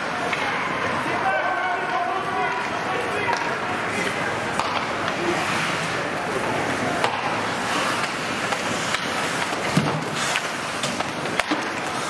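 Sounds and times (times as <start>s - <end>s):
hockey sticks and puck clicking: 0.0s - 0.6s, 1.8s - 12.0s
arena noise: 0.0s - 12.0s
skates scraping on ice: 1.8s - 12.0s.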